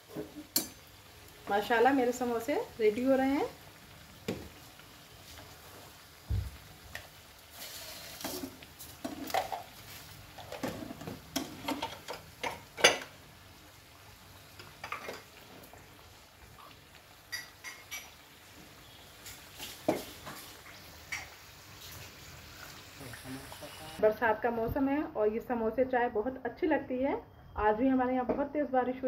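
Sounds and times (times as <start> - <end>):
food deep-frying in oil: 0.0 - 25.6.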